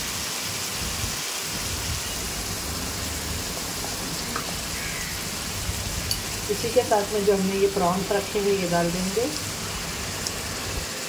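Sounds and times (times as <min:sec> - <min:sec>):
masala sizzling in oil: 0:00.0 - 0:11.0.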